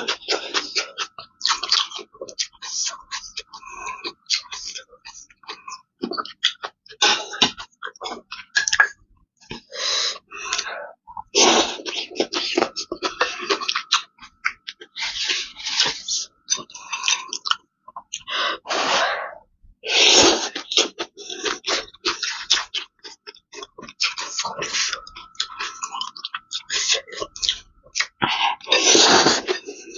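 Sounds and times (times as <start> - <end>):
slurping and chewing: 0.0 - 29.9.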